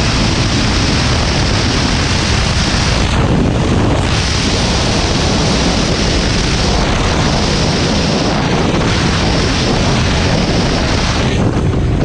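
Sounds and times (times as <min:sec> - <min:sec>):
snowmobile engine rumble: 0:00.0 - 0:12.0
wind rushing over microphone: 0:00.0 - 0:12.0.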